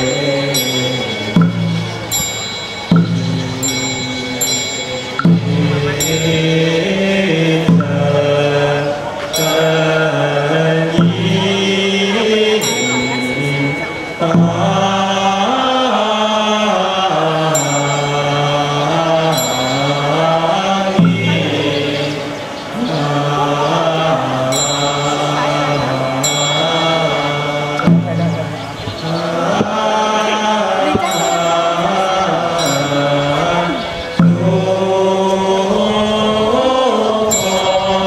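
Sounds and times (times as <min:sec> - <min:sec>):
ritual bell ringing: 0:00.0 - 0:38.0
slow melodic chanting: 0:00.0 - 0:38.0.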